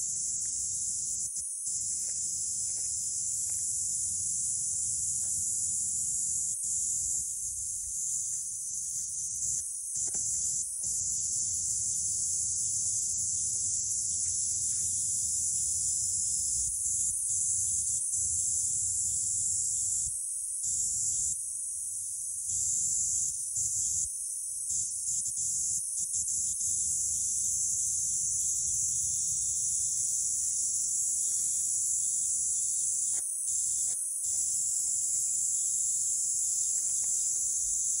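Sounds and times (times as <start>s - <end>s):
cicadas buzzing: 0.0s - 38.0s.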